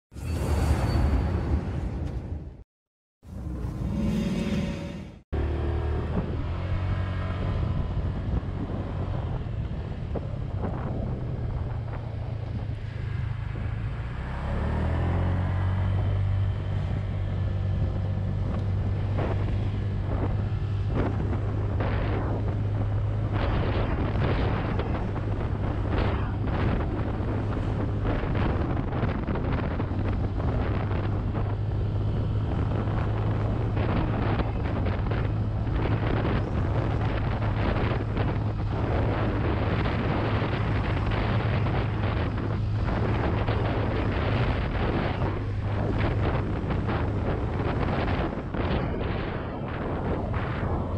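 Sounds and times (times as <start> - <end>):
wind buffeting microphone: 5.9 - 50.9.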